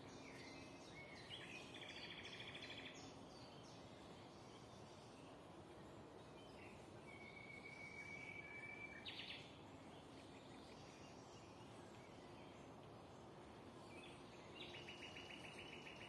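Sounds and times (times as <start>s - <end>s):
faint birdsong: 0.0s - 16.0s
steady background hiss: 0.0s - 16.0s.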